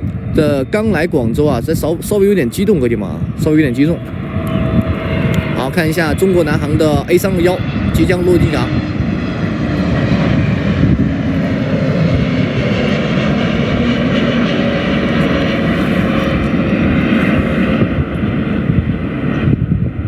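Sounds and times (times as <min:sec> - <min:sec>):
jet airliner passing close: 0:00.0 - 0:20.0
whining engine tones: 0:01.9 - 0:19.6.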